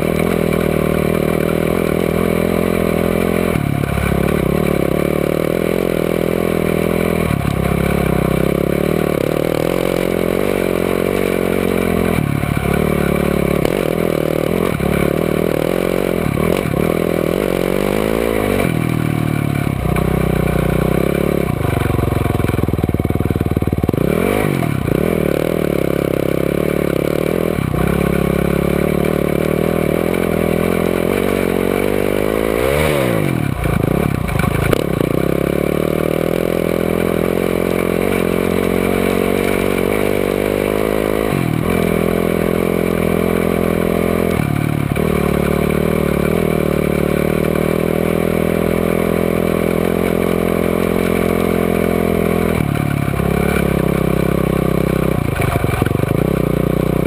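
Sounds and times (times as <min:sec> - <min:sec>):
off-road vehicle engine running hard: 0:00.0 - 0:57.0.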